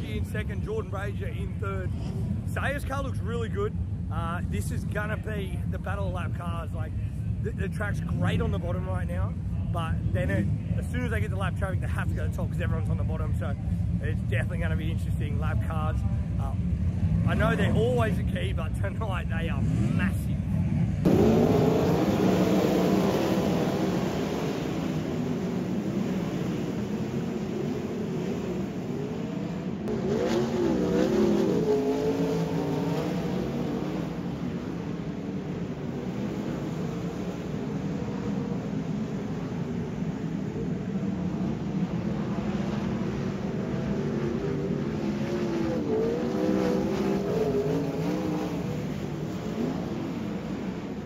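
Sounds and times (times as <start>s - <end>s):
race car engines passing: 0.0s - 51.0s.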